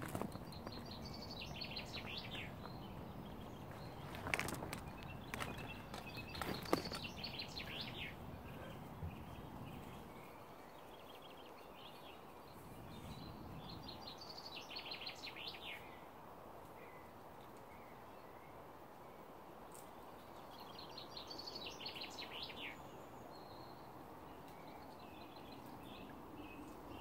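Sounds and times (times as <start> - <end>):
low outdoor background noise: 0.0 - 27.0
songbirds chirping: 0.0 - 27.0.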